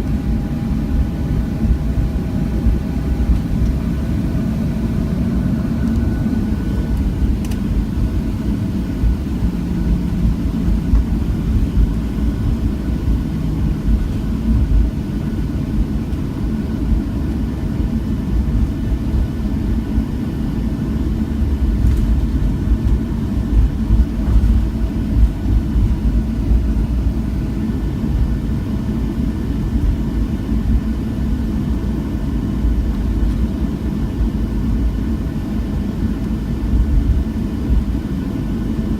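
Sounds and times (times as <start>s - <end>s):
airplane cabin engine rumble: 0.0s - 38.9s
faint engine tones: 0.0s - 38.9s.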